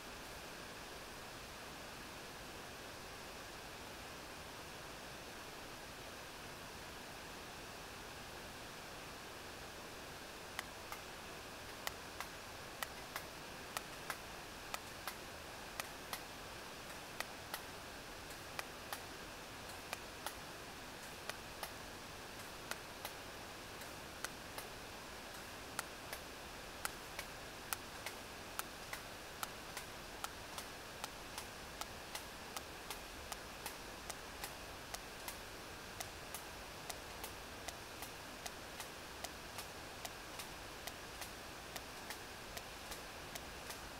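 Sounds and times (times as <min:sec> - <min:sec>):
steady hydrophone hiss: 0:00.0 - 0:43.9.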